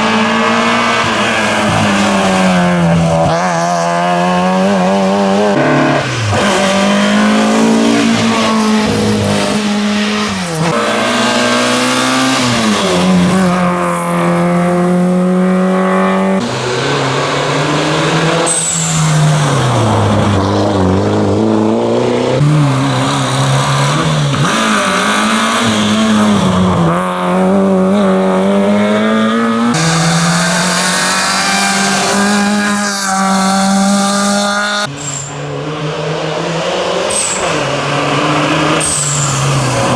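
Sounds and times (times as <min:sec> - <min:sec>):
rally car engines revving: 0:00.0 - 0:39.9.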